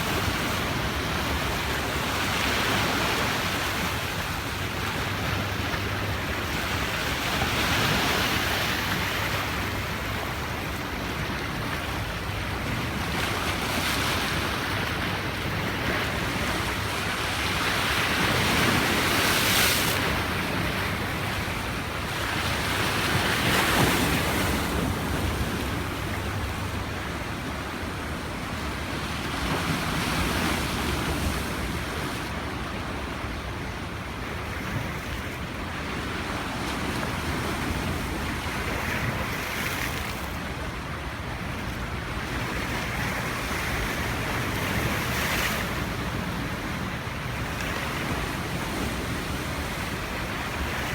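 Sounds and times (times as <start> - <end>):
sea waves breaking on beach: 0.0 - 50.9.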